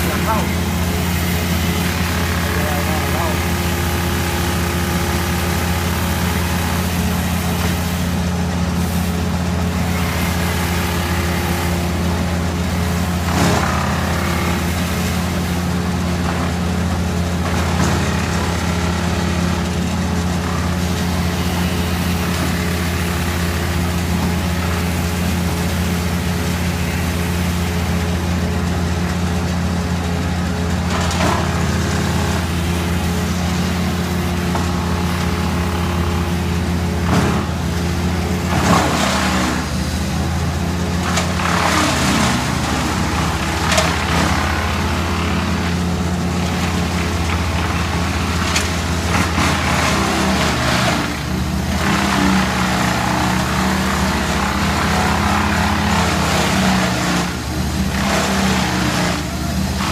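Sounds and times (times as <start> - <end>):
wood chipper engine running: 0.0 - 59.9.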